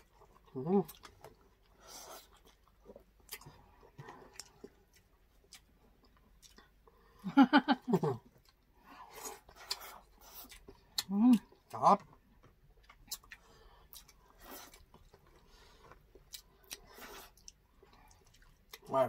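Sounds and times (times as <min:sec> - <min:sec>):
chewing and mouth clicks: 0:00.0 - 0:07.0, 0:08.2 - 0:11.8, 0:12.4 - 0:19.0.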